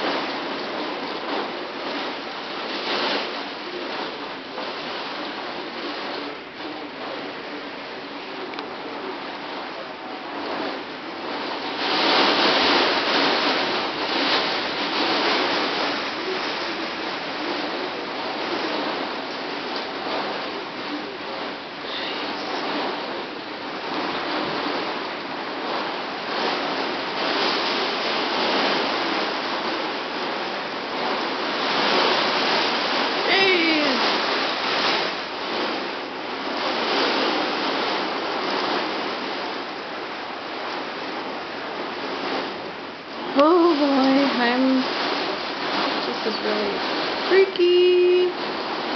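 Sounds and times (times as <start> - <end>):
torrential rain with strong wind: 0.0 - 48.9.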